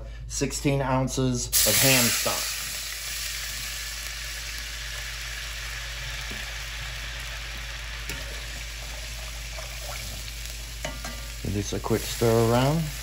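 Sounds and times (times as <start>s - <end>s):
stock sizzling in a pot: 1.5s - 13.0s.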